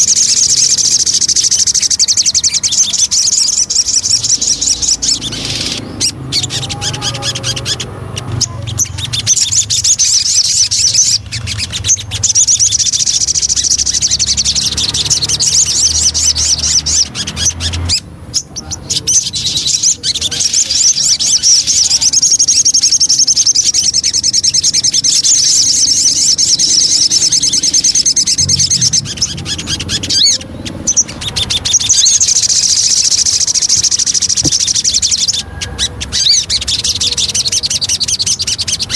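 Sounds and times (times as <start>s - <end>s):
bird singing high chattering trills: 0.0s - 38.9s.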